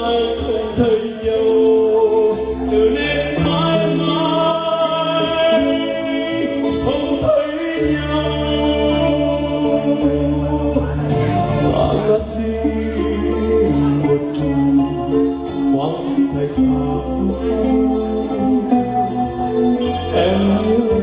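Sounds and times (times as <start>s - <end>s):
keyboard and guitar accompaniment: 0.0s - 21.0s
man singing ballad: 0.0s - 21.0s.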